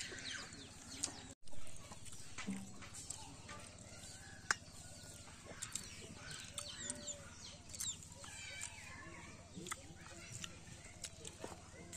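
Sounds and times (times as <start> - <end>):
chicken clucking: 0.0 - 11.9
small birds chirping: 0.0 - 11.9.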